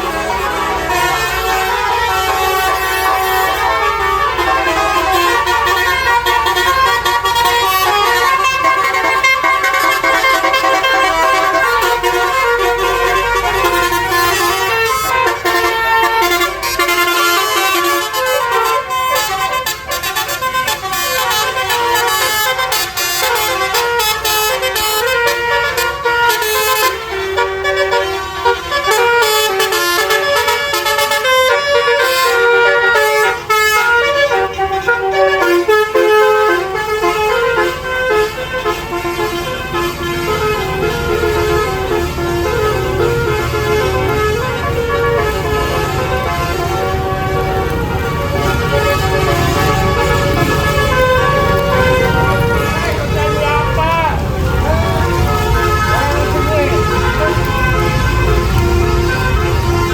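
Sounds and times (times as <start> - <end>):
musical bus horns playing a tune: 0.0 - 59.9.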